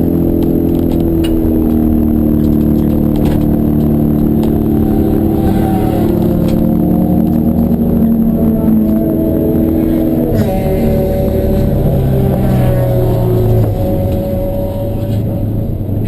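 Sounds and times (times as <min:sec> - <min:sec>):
racing car engine at high revs: 0:00.0 - 0:16.0.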